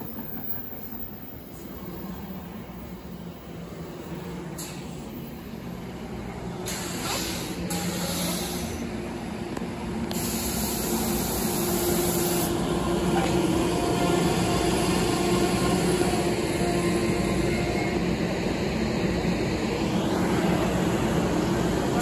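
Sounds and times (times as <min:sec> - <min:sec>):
train rail and wheel noise: 0:00.0 - 0:22.0.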